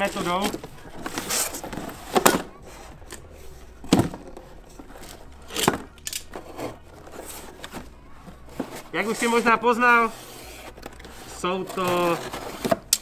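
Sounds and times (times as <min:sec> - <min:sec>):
cardboard and tape ripping: 0:00.0 - 0:13.0.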